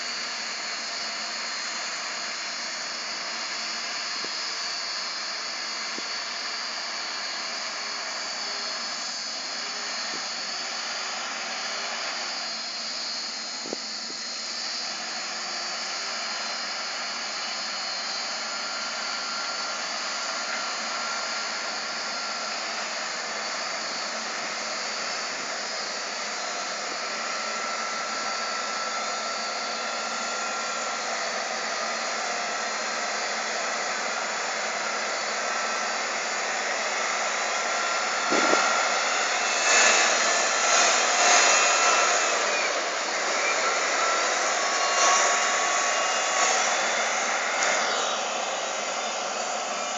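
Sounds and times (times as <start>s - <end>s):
faint high whine: 0.0s - 49.9s
wheel loader diesel engine: 0.0s - 49.9s.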